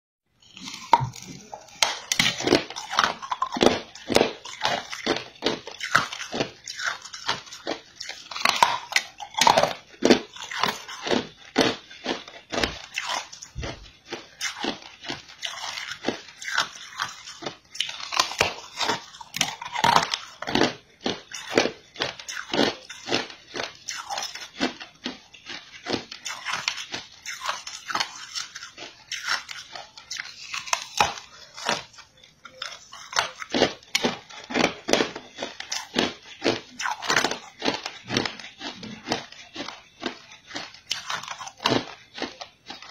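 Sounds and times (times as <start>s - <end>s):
ice bar crunching: 0.4s - 42.9s.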